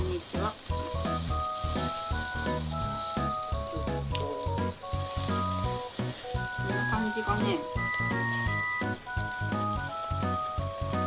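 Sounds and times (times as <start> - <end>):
background music with bass line: 0.0 - 11.0
meat sizzling on grill: 0.0 - 11.0.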